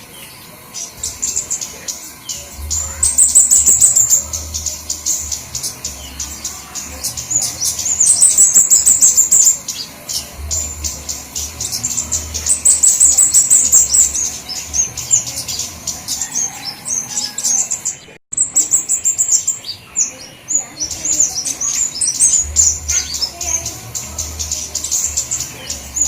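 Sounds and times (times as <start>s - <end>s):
flowerpeckers chattering: 0.0s - 26.0s.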